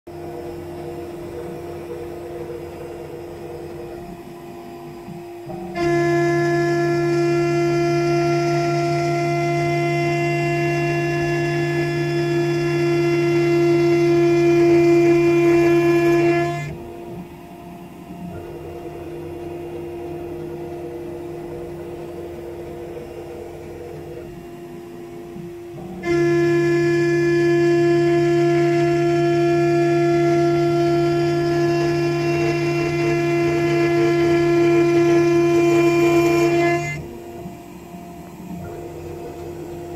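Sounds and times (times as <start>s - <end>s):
cnc spindle milling whine: 0.1s - 39.9s.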